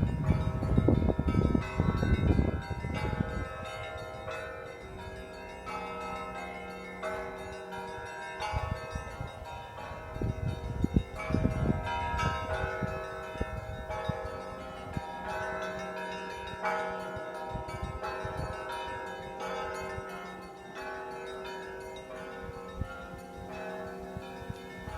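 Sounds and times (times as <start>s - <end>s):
church bells ringing: 0.0s - 24.9s.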